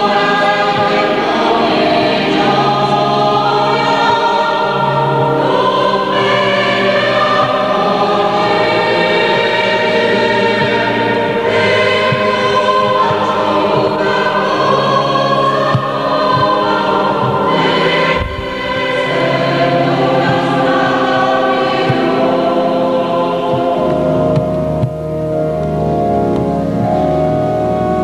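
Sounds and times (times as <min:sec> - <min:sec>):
mixed choir singing: 0:00.0 - 0:26.8.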